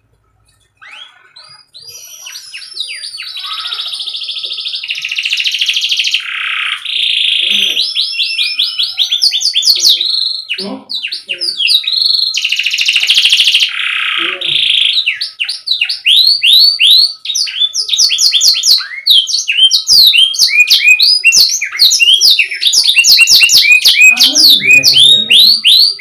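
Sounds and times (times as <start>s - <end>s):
canary singing trills: 0.3s - 26.0s.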